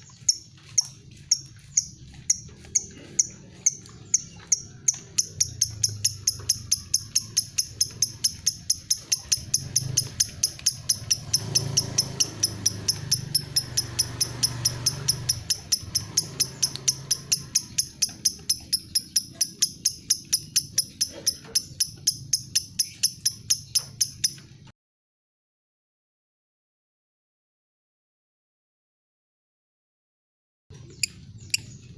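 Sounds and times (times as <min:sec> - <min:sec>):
bird ticking chirps: 0:00.0 - 0:24.5, 0:30.8 - 0:31.9.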